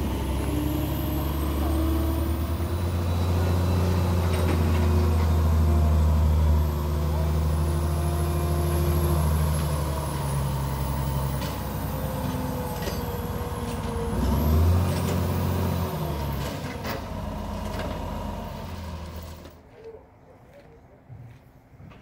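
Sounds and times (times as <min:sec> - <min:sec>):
diesel truck engine revving: 0:00.0 - 0:19.5.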